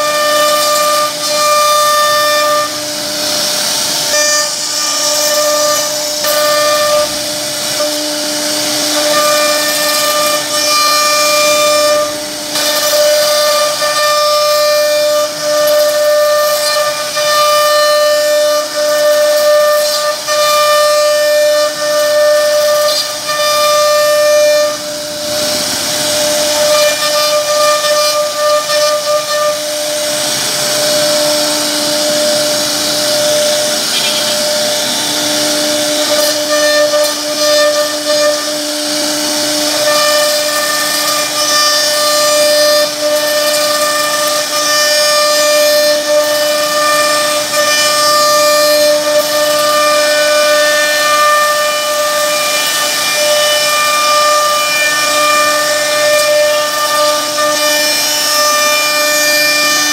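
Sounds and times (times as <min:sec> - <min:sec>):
hiss of bit cutting wood: 0:00.0 - 0:59.9
router spindle whine: 0:00.0 - 0:59.9.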